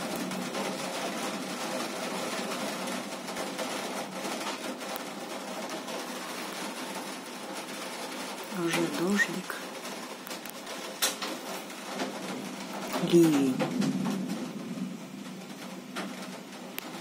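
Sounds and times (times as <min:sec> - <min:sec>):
steady rain pattering: 0:00.0 - 0:17.0.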